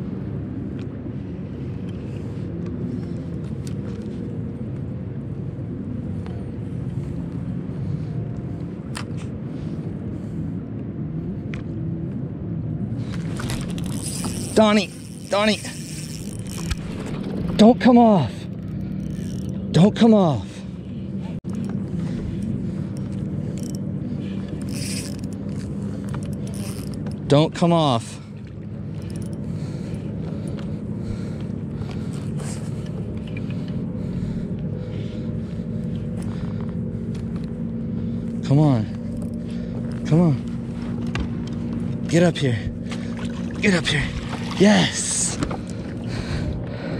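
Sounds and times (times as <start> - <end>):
boat engines rumbling: 0.0 - 46.9.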